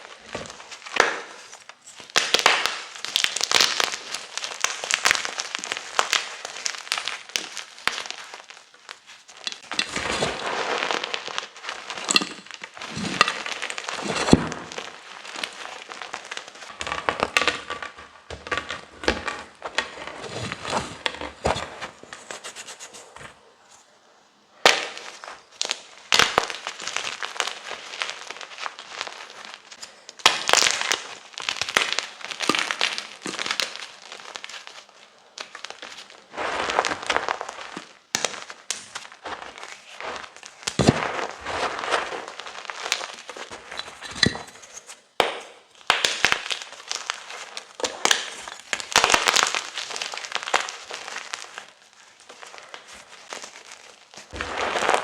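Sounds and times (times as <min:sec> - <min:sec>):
chalk being crushed: 0:00.0 - 0:23.5, 0:24.6 - 0:55.0.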